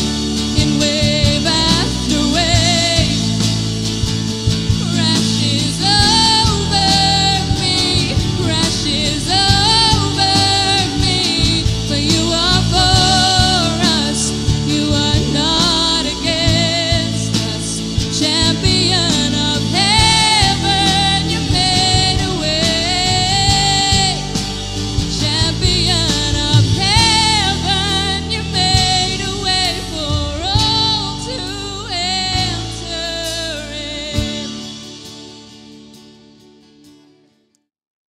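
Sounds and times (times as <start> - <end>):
woman singing: 0.0 - 3.9, 4.6 - 34.9
drums: 0.0 - 37.0
worship band playing: 0.0 - 37.0.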